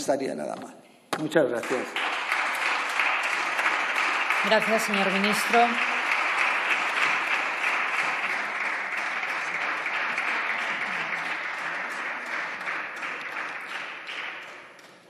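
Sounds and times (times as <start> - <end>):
people applauding: 1.4 - 15.0.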